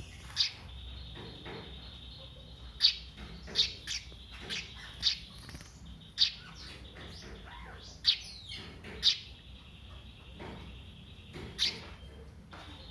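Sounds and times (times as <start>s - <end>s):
sparrow chirping: 0.0s - 12.9s.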